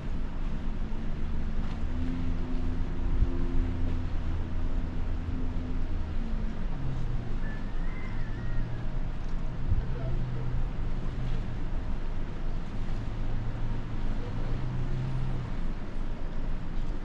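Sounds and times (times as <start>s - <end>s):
ship engine droning hum: 0.0s - 17.0s.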